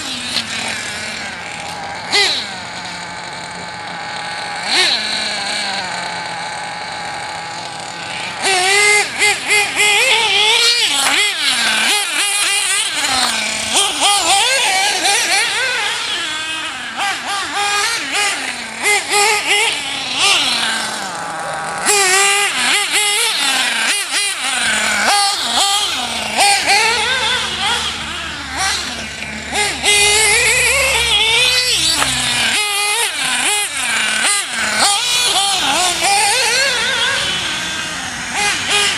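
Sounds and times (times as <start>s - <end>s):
model car engine whining: 0.0s - 38.9s.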